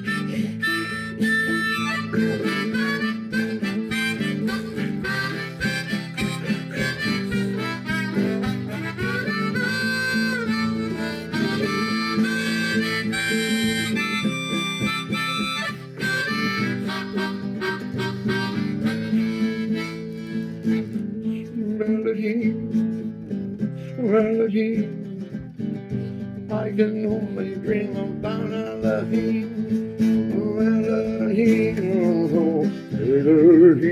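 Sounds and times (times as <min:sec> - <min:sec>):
harmonica melody: 0:00.0 - 0:23.9, 0:26.9 - 0:33.9
strummed acoustic guitar: 0:00.0 - 0:33.9.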